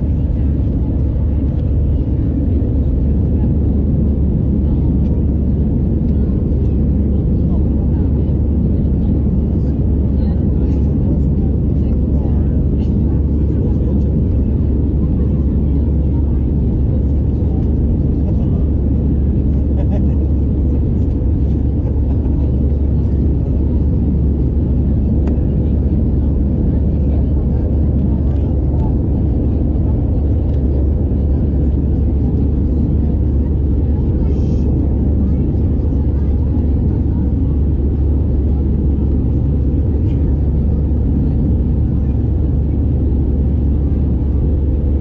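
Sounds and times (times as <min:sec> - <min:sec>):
jet engine roar in cabin: 0:00.0 - 0:45.0.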